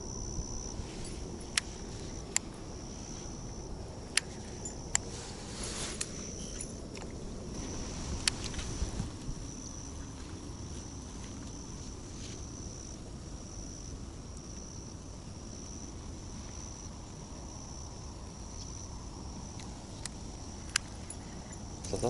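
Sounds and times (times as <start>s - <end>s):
crickets trilling: 0.0s - 22.0s
low outdoor rumble: 0.0s - 22.0s.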